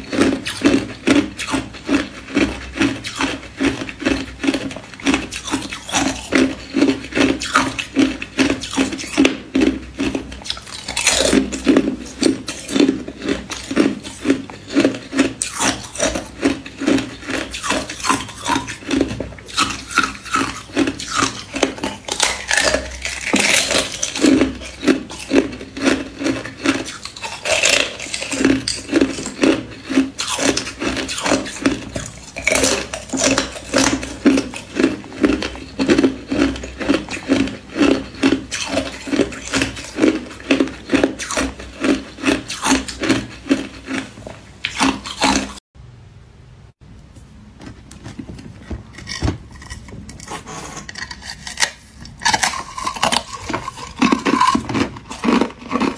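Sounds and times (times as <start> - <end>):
ice being chewed: 0.0 - 45.6, 48.9 - 55.9.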